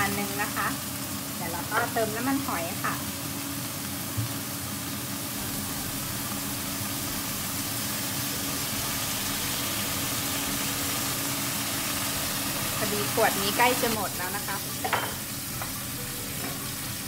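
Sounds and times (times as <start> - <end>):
meat sizzling in a wok: 0.0 - 17.0.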